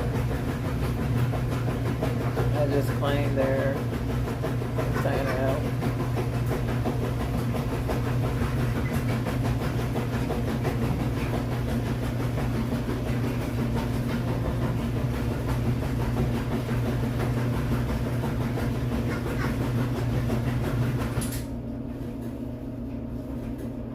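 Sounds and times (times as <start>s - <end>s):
mechanical drone with low hum: 0.0s - 23.9s.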